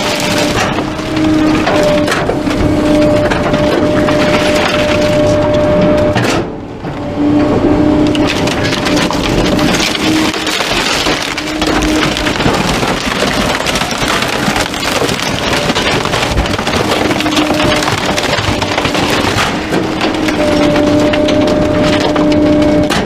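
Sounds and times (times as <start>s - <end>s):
garbage truck compactor crushing: 0.0s - 23.0s
truck machinery hum: 0.0s - 23.0s
wood cracking and splintering: 0.0s - 23.0s.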